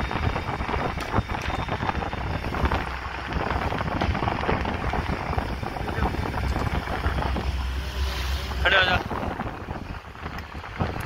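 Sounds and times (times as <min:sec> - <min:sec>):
boat engine rumble: 0:00.0 - 0:11.0
wind buffeting microphone: 0:00.0 - 0:11.0.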